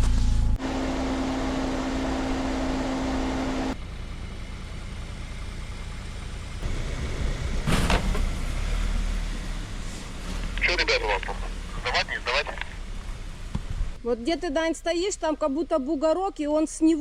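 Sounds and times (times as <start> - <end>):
suv engine running: 0.0 - 17.0.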